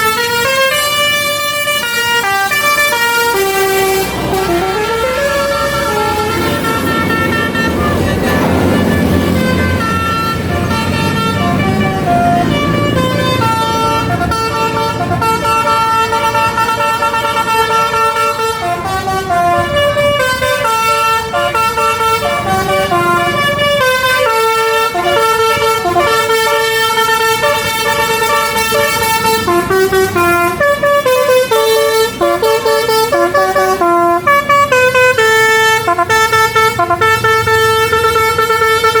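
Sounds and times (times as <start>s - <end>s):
low engine rumble: 0.0s - 39.0s
multi-tone bus horn melody: 0.0s - 39.0s.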